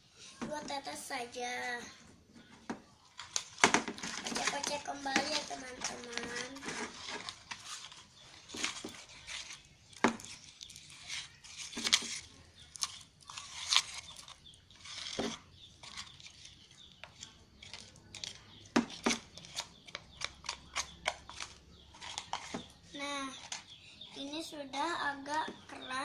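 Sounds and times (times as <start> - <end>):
sticky slime squelching: 2.4 - 24.1.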